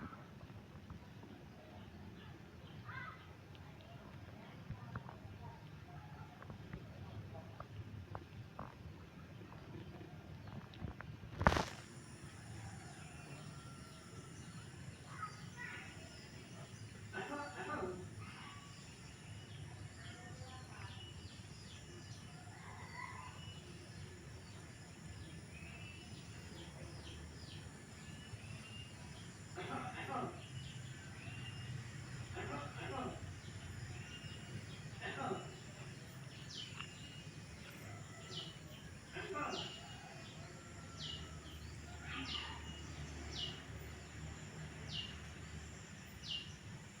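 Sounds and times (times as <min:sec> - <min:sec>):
birds chirping: 0:06.4 - 0:47.0.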